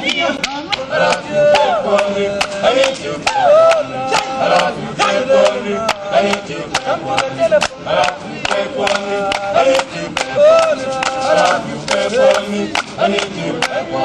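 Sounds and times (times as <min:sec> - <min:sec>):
male choir singing: 0:00.0 - 0:14.0
sharp rhythmic strikes: 0:00.0 - 0:14.0.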